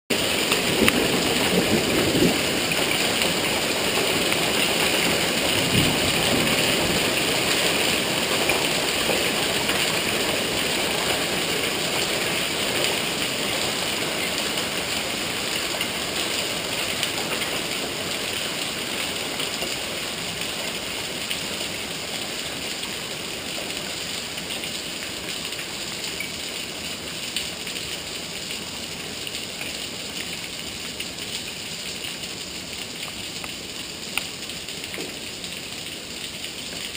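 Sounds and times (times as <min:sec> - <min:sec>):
hail and rain pelting: 0:00.1 - 0:36.9.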